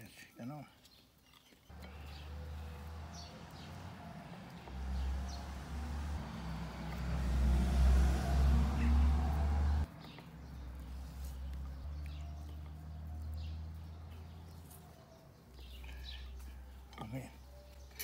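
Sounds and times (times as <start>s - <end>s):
motor vehicle engine rumble: 1.7s - 18.0s.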